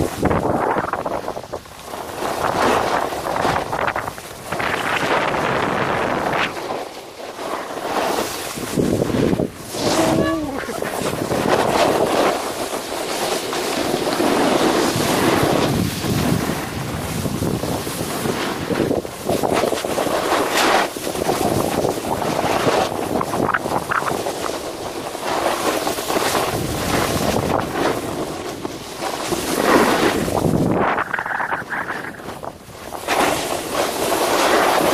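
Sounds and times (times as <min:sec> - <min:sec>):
wind buffeting microphone: 0:00.0 - 0:06.7, 0:08.4 - 0:13.1, 0:13.8 - 0:25.2, 0:26.2 - 0:34.9
snowboard scraping over snow: 0:00.0 - 0:34.9.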